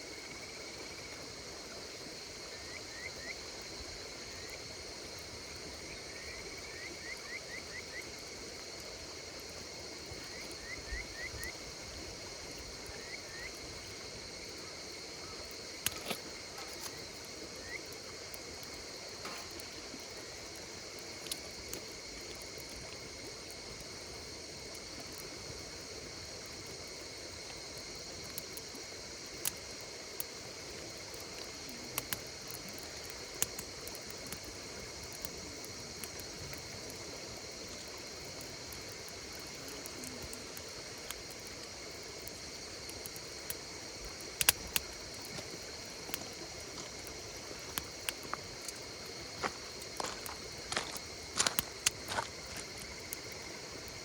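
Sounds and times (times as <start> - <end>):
campfire crackling and popping: 0.0 - 54.0
insects chirring: 0.0 - 54.0.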